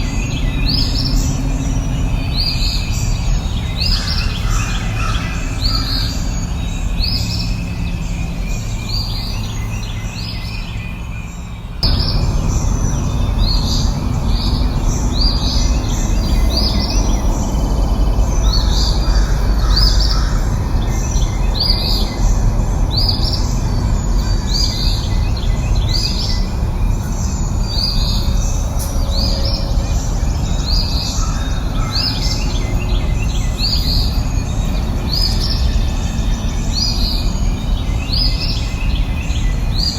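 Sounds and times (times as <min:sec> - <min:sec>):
low rushing background: 0:00.0 - 0:39.9
songbird chirping: 0:00.0 - 0:39.9.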